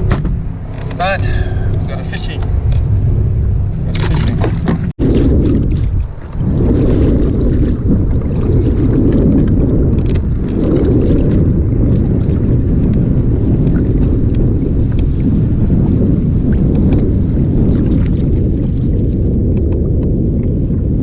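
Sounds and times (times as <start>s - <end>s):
wind buffeting microphone: 0.0s - 21.0s
water splashing against kayak: 3.8s - 21.0s.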